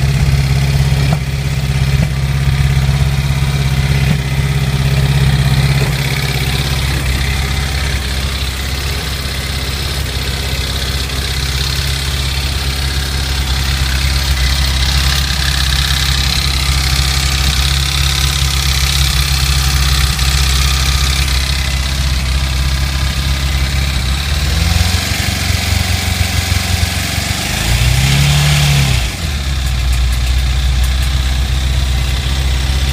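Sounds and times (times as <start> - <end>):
motorcycle engine idling with knock: 0.0 - 24.6, 29.1 - 32.9
engine revving: 0.0 - 32.9.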